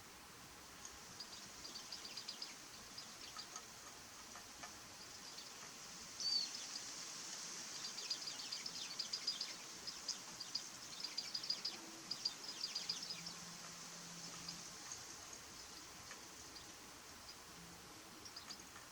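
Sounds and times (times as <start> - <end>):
birds chirping rapidly: 0.9 - 18.9.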